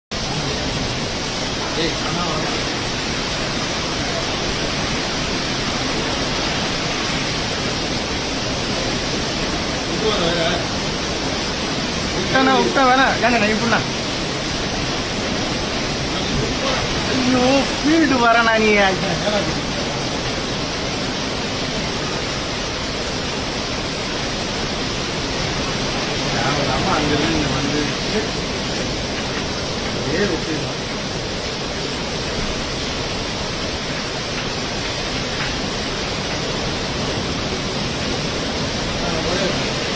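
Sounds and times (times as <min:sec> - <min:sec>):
rough sea rushing: 0:00.1 - 0:39.9
strong wind: 0:00.1 - 0:39.9.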